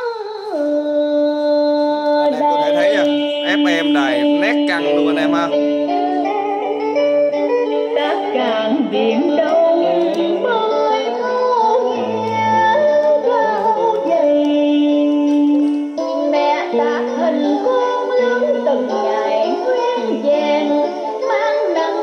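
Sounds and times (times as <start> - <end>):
song through stereo speakers: 0.0 - 22.0.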